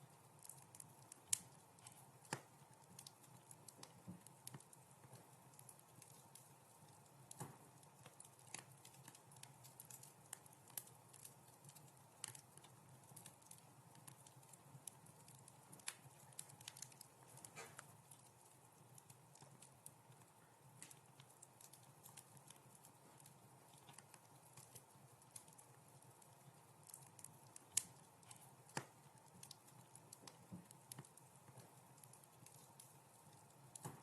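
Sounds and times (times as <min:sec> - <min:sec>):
soft steady hiss: 0:00.0 - 0:34.0
wood fire crackling: 0:00.0 - 0:34.0.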